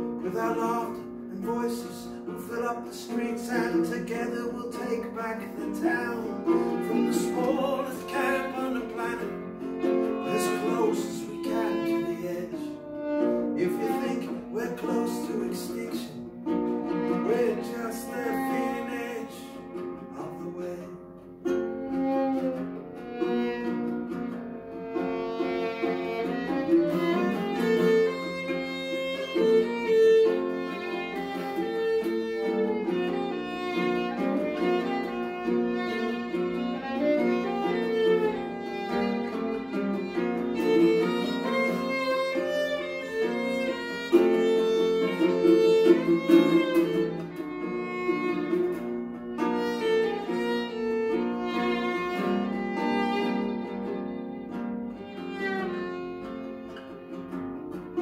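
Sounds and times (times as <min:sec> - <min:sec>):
fiddle melody: 0:00.0 - 0:58.0
strummed ukulele chords: 0:00.0 - 0:58.0.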